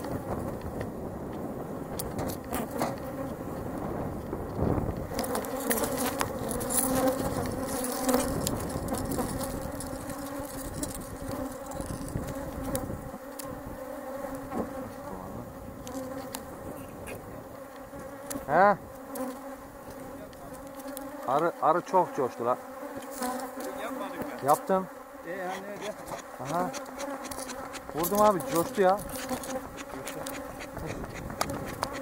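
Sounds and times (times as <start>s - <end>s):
bees buzzing: 0.0s - 4.1s, 4.8s - 32.0s.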